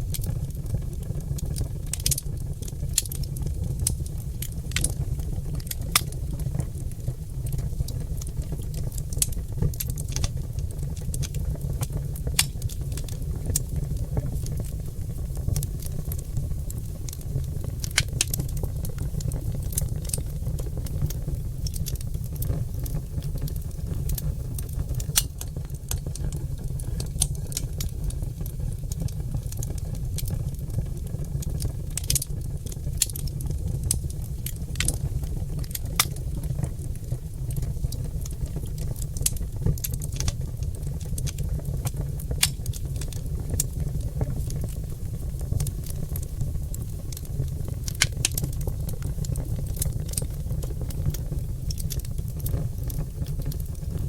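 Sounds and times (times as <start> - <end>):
logs crackling and popping: 0.0 - 54.0
low rumble of fire: 0.0 - 54.0.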